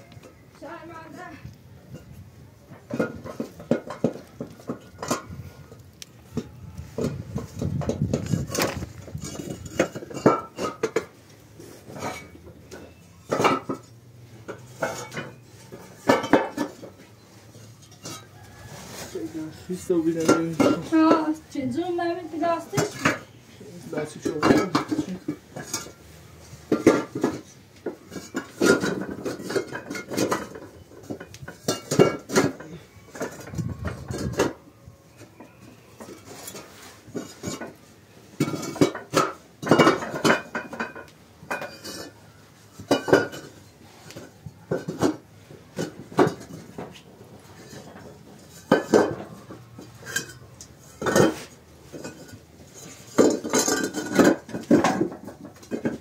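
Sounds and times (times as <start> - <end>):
clay bricks clinking and knocking: 2.6 - 11.2, 11.8 - 18.7, 20.2 - 21.4, 22.6 - 23.4, 24.0 - 26.0, 26.7 - 56.0.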